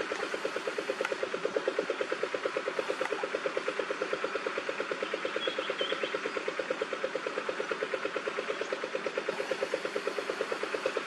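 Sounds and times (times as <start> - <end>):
motor pulsing hum: 0.0 - 11.0.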